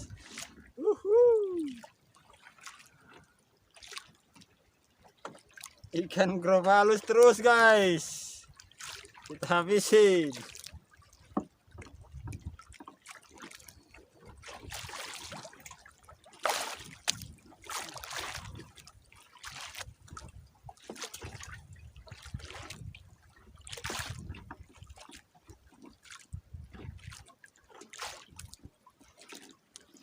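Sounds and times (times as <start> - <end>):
sea water splashing: 0.0 - 30.0.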